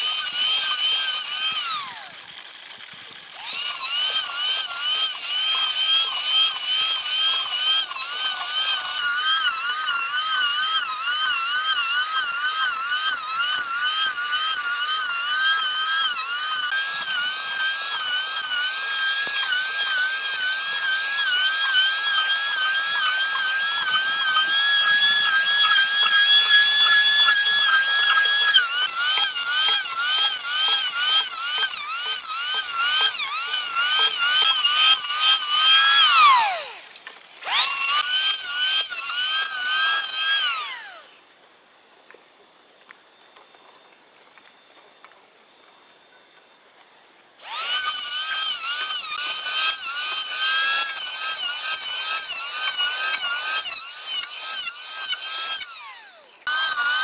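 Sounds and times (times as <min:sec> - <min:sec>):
power tool motor whining: 0:00.0 - 0:41.2, 0:47.4 - 0:57.0.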